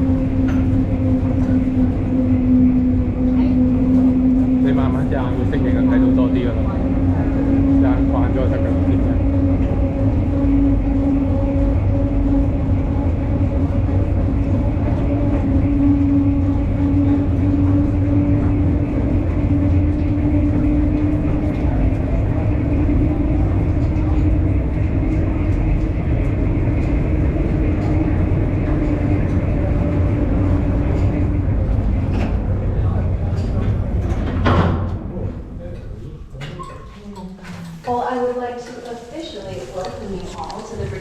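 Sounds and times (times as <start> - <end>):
droning hum: 0.0 - 41.0
train rumbling along track: 0.0 - 41.0.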